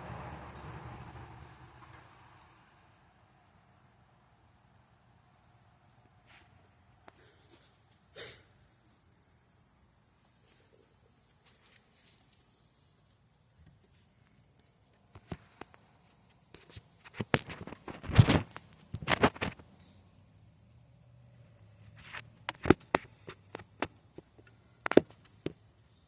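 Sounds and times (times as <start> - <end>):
insect chirring: 1.1 - 26.0.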